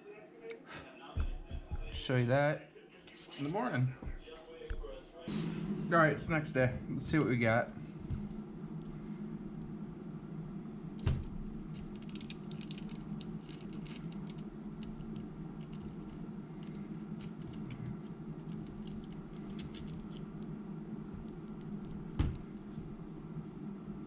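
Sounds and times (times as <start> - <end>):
steady low hum: 0.4 - 24.0.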